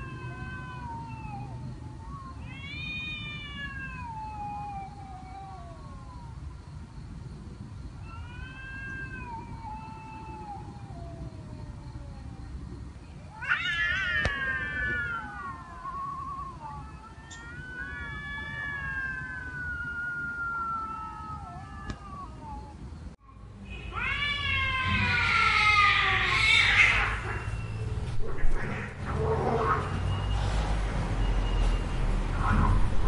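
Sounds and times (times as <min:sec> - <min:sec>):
cat meowing: 0:00.0 - 0:06.3, 0:08.0 - 0:12.4, 0:13.3 - 0:30.2.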